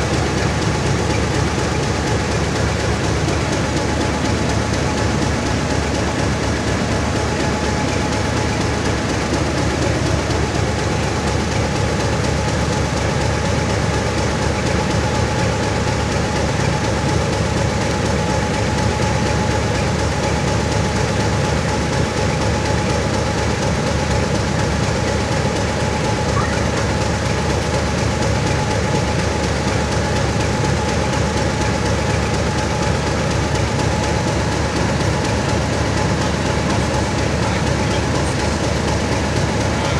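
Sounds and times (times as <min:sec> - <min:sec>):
diesel locomotive idling: 0:00.0 - 0:39.9
steady engine whine: 0:00.0 - 0:39.9.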